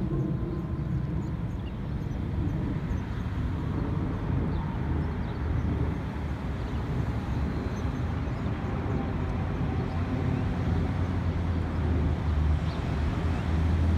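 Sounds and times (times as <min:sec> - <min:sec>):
low outdoor rumble: 0:00.0 - 0:13.9.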